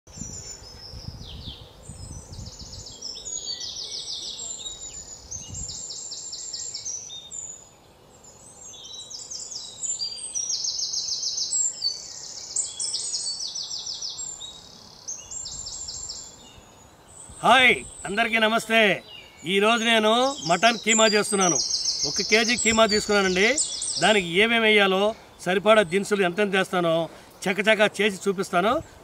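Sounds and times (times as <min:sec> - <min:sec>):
birds chirping: 0:00.1 - 0:29.0.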